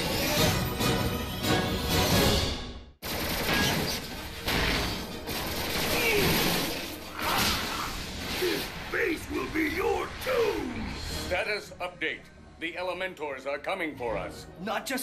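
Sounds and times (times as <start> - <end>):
theme music: 0.0 - 15.0.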